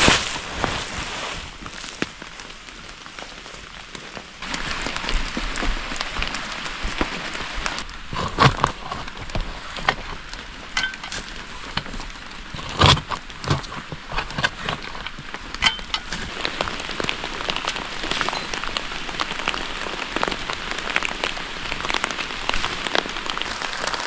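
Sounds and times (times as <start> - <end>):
branches and dry leaves rustling: 0.0 - 24.0.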